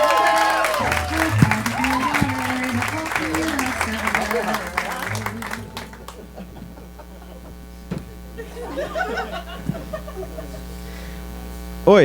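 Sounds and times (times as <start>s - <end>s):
electrical mains hum: 0.0s - 12.0s
faint voices and chuckles: 1.0s - 10.9s.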